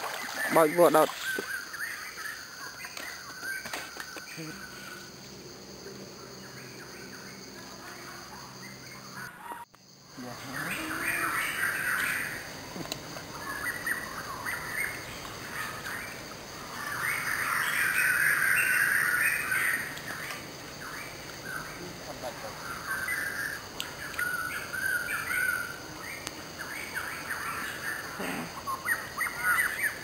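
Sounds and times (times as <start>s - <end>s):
birds chattering calls: 0.0s - 30.0s.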